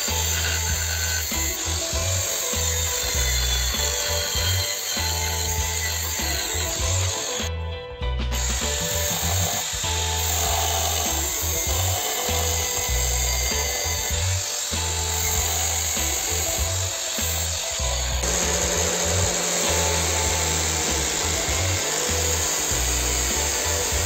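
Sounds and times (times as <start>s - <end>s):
angle grinder on steel: 0.0s - 7.6s, 8.3s - 24.0s
music with pulsing bass beat: 0.0s - 24.0s.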